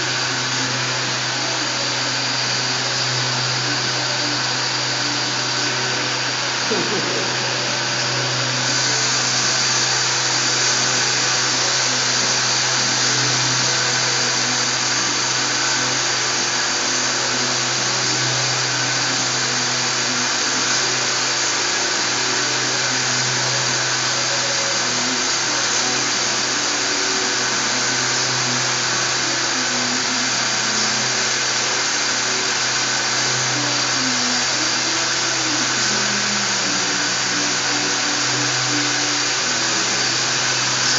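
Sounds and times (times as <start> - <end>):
faint high whines: 0.0 - 40.9
sanding machine hiss and hum: 0.0 - 40.9.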